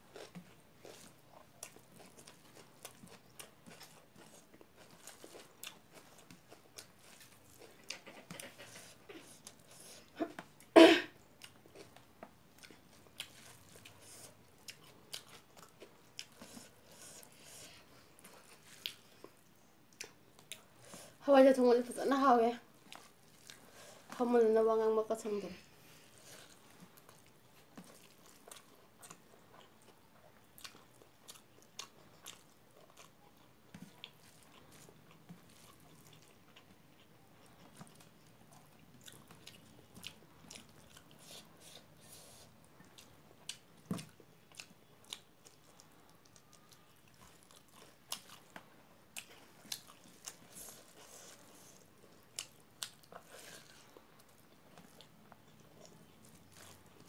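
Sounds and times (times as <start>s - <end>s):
chewing and mouth smacks: 0.1s - 10.7s, 11.3s - 20.7s, 22.8s - 24.2s, 26.2s - 57.0s.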